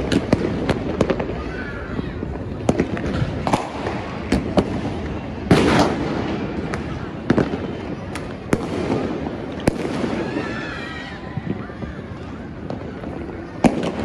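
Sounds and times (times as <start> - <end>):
distant firework bangs: 0.0 - 10.8, 12.5 - 14.0
firework crackling burst: 0.0 - 14.0.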